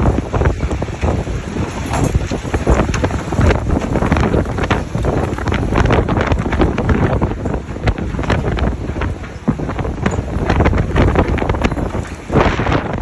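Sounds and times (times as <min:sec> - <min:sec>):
gusting wind buffeting microphone: 0:00.0 - 0:13.0.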